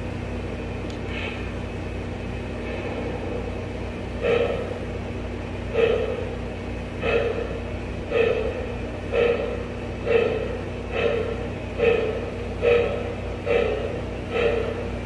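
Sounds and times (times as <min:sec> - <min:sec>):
steady low hum: 0:00.0 - 0:15.0
model steam locomotive chuffs: 0:02.6 - 0:15.0.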